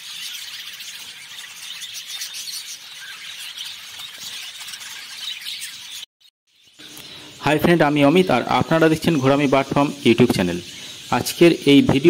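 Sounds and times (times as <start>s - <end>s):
finches chattering: 0.0s - 12.0s.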